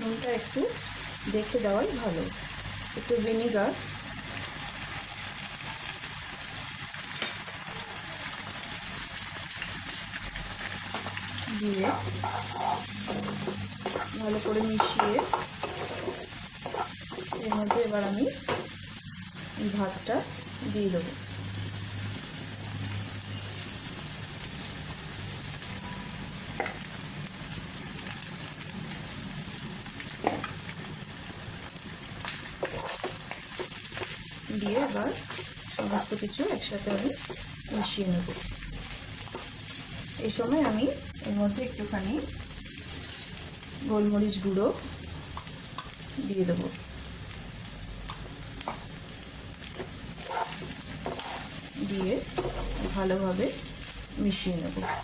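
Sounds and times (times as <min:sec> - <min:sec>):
food sizzling in hot oil: 0:00.0 - 0:55.0.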